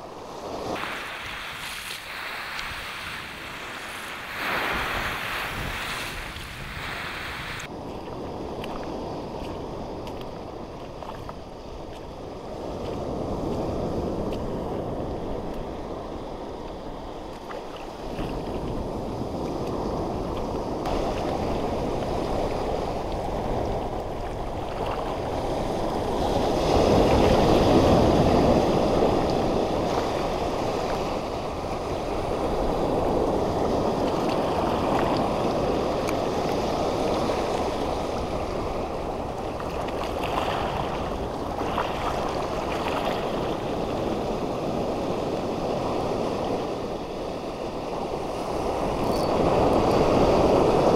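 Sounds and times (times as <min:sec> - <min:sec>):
surf washing over reef: 0:00.0 - 0:50.9.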